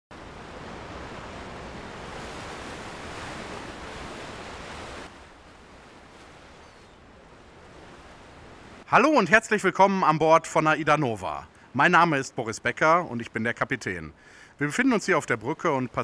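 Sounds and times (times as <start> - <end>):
sea waves rushing: 0.1 - 16.0
wind: 0.1 - 16.0
faint steady hiss: 0.2 - 16.0.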